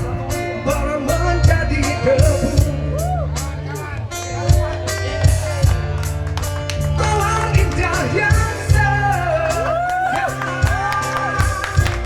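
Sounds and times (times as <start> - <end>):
man singing rock song: 0.0 - 5.7, 7.0 - 11.8
rock band with drums and bass: 0.0 - 12.0.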